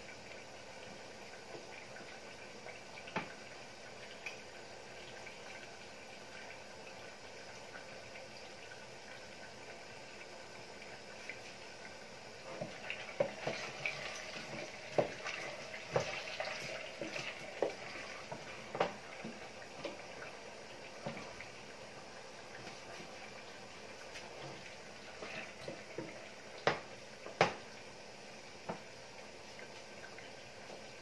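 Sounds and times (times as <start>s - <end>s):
pan simmering with low bubbling: 0.0s - 31.0s.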